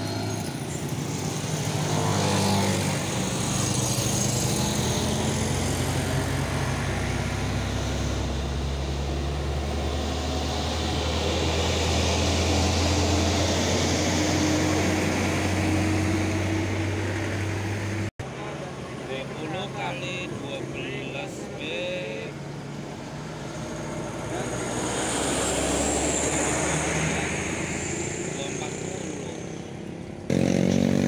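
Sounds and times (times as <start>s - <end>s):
motorcycle engines passing: 0.0s - 31.0s.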